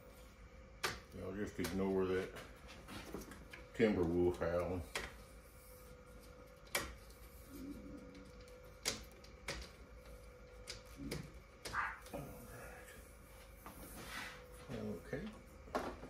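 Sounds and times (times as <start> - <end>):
faint steady whine: 0.0 - 16.0.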